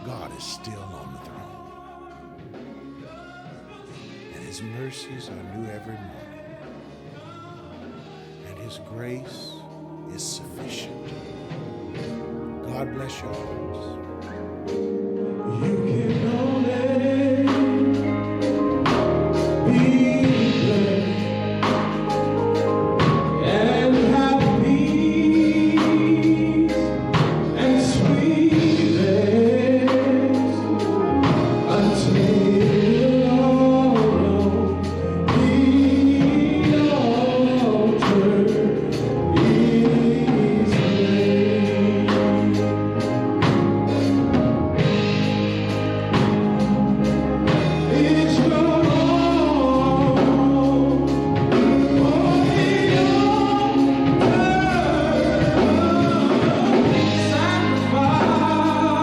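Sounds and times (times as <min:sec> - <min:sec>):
choir singing gospel: 0:00.0 - 0:59.0
instrumental backing with beat: 0:00.0 - 0:59.0.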